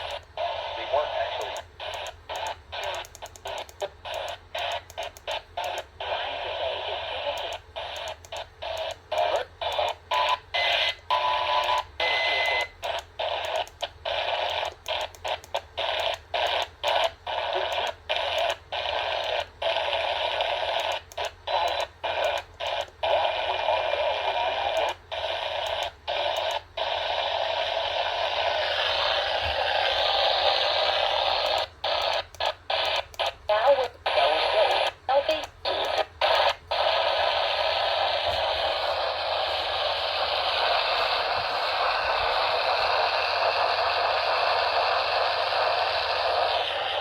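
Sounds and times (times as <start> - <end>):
radio static hiss: 0.0 - 47.0.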